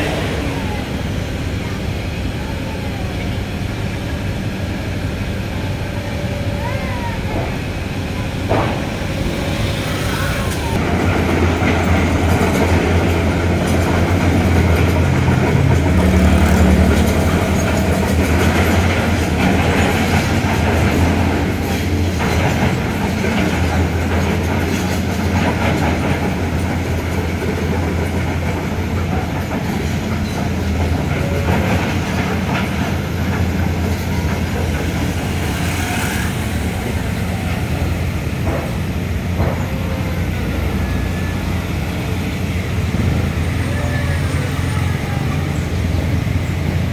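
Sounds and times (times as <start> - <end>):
construction machinery engine rumble: 0.0 - 46.9
street traffic: 0.0 - 46.9.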